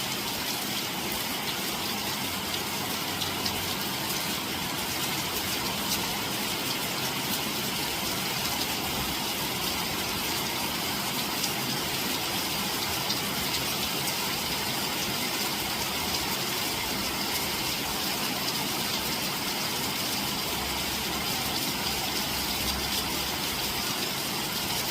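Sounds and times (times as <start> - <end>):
rain falling steadily: 0.0 - 24.9.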